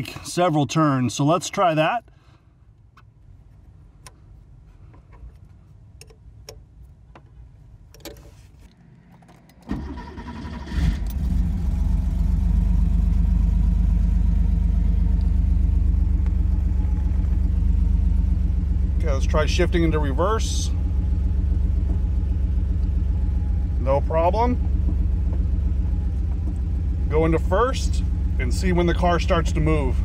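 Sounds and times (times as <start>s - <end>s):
car engine starting and idling: 3.9s - 30.0s.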